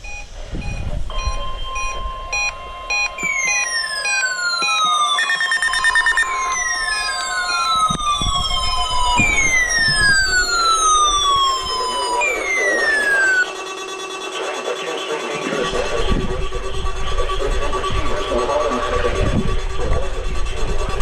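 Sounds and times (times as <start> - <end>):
lower steady tone: 0.0 - 21.0
rapid beeping: 0.0 - 21.0
steady tone: 0.0 - 21.0
weather radio siren alarm: 0.0 - 21.0.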